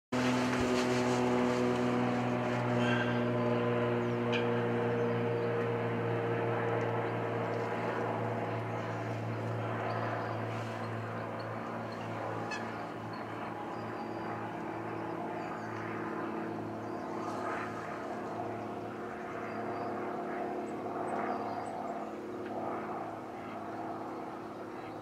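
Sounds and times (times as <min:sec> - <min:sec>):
distant engine drone: 0:00.2 - 0:25.0.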